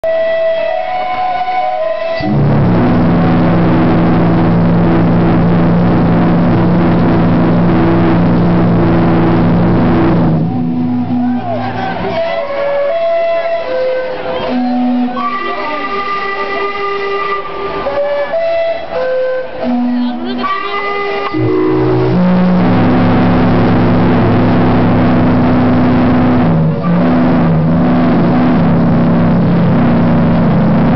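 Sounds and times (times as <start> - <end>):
steam whistles blowing chord: 0.0 - 30.9.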